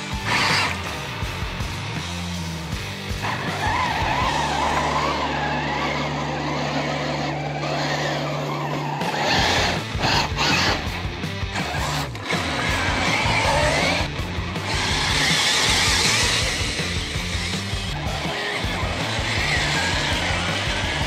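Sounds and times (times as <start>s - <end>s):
background music with bass: 0.0s - 21.0s
electric motor whining: 0.1s - 0.9s, 3.4s - 21.0s.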